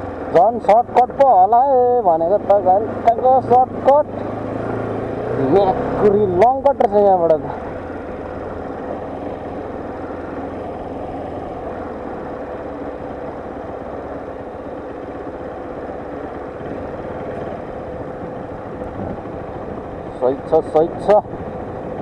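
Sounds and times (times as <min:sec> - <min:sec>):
motorcycle engine steady drone: 0:00.0 - 0:22.0.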